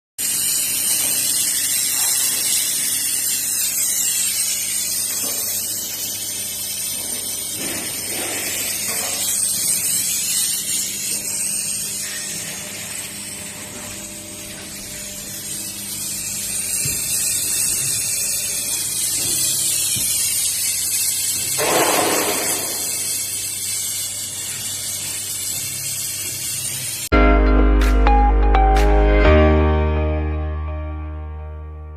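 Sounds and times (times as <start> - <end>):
welding machine high-pitched hiss: 0.2 - 27.1.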